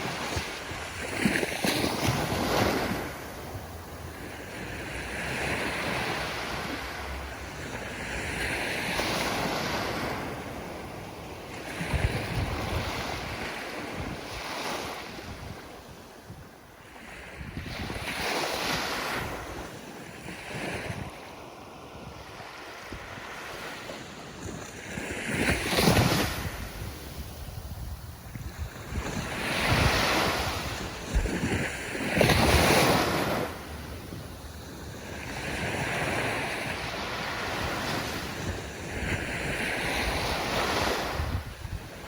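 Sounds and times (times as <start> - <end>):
ocean waves surging: 0.0 - 15.2, 21.2 - 42.0.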